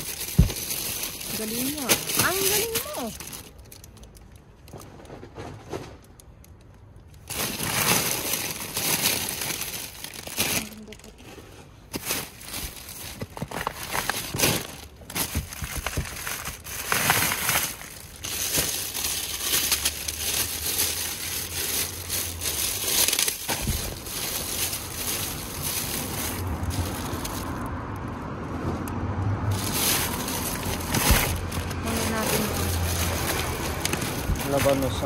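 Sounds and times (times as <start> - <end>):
plastic bags crinkling: 0.0 - 28.1, 29.4 - 35.0.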